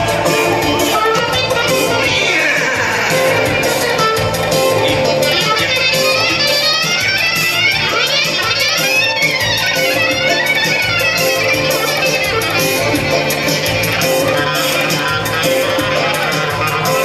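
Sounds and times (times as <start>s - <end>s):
folk dance music: 0.0s - 17.0s.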